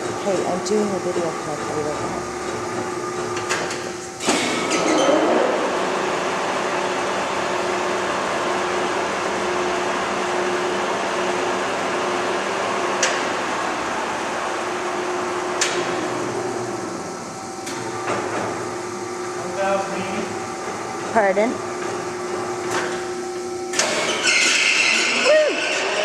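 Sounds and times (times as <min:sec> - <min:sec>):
lathe whirring: 0:00.0 - 0:26.0.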